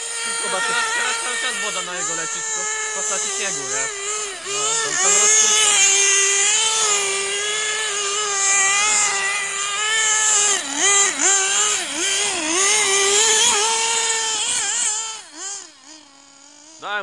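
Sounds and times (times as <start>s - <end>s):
rc buggy engine whining: 0.0s - 17.0s.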